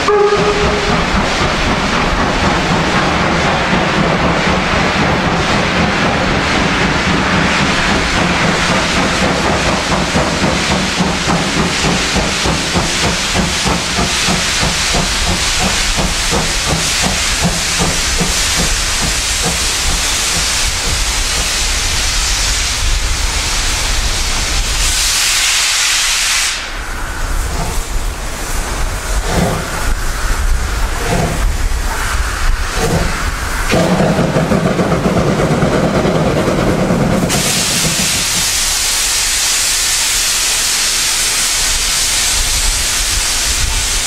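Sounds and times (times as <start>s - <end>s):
loud hiss of steam: 0.0s - 44.0s
steam locomotive exhaust beating: 0.0s - 44.0s.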